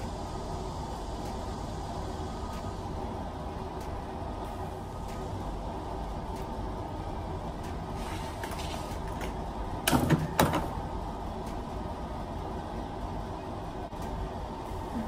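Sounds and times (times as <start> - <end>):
air conditioner hum: 0.0 - 15.0.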